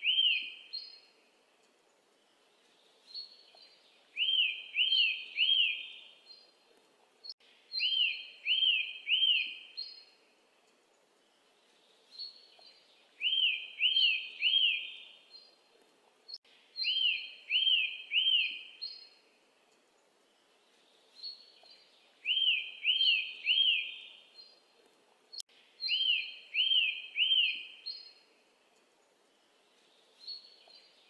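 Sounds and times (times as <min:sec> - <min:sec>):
faint background hiss: 0:00.0 - 0:31.0.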